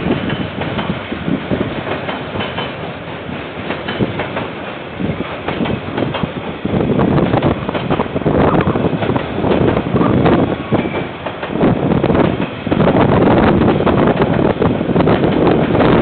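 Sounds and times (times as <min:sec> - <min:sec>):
freight train rumbling past: 0:00.0 - 0:16.0
wind buffeting microphone: 0:00.0 - 0:16.0.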